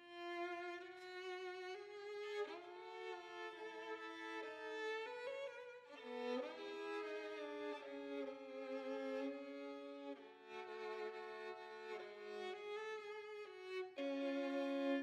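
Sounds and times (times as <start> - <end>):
solo violin bowed notes: 0.0 - 15.0.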